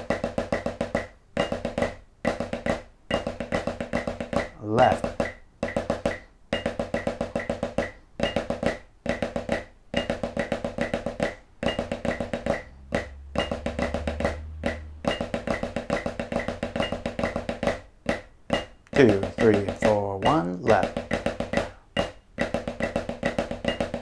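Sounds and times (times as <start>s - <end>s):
snare drum triplets: 0.0s - 24.0s.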